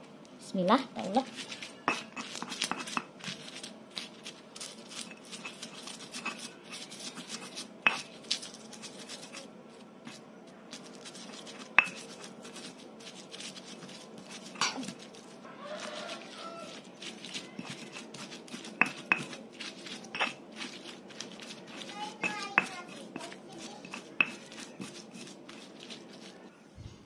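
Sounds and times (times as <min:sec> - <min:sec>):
stone pestle grinding on stone: 0:01.2 - 0:09.5, 0:10.8 - 0:26.5.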